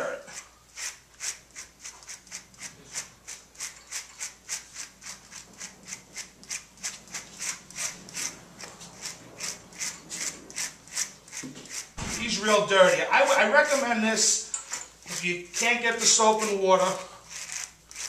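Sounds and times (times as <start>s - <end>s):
brush swishing through dog hair: 0.3s - 18.0s.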